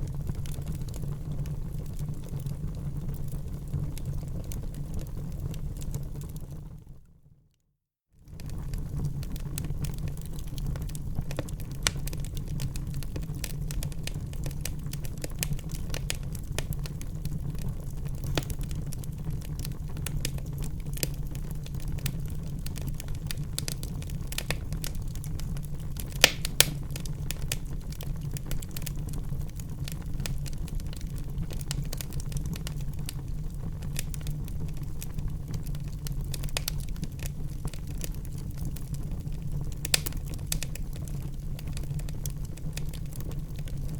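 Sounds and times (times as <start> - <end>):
wood fire crackling: 0.0 - 6.9, 8.3 - 43.9
burning wood snapping and popping: 8.4 - 43.9.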